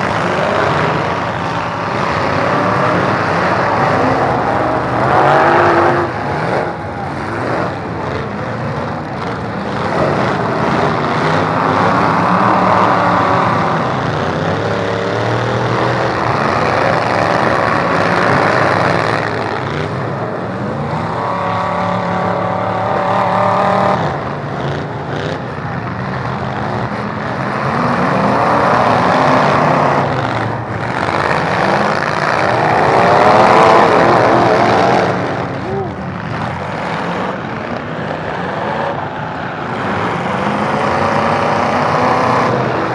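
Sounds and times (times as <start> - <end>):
truck engines revving hard: 0.0 - 42.9.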